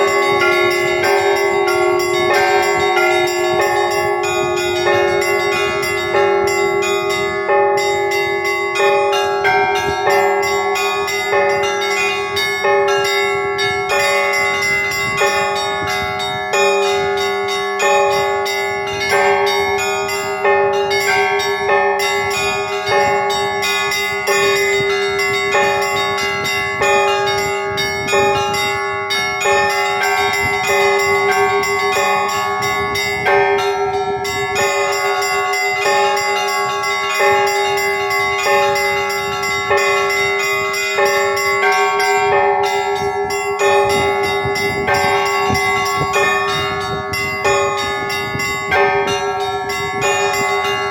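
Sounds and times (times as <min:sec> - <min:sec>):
church bells ringing: 0:00.0 - 0:50.9
deep bell humming: 0:00.0 - 0:50.9.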